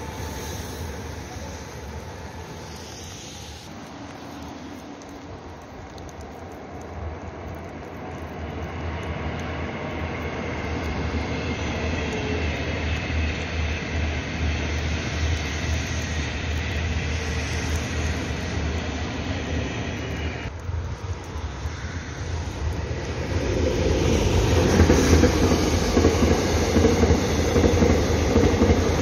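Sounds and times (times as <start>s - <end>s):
high-speed train passing: 0.0s - 29.0s.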